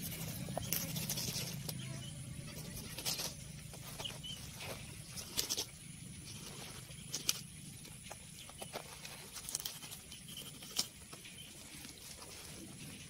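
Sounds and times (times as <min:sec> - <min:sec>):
faint low hum: 0:00.0 - 0:13.0
rustles: 0:00.0 - 0:13.0.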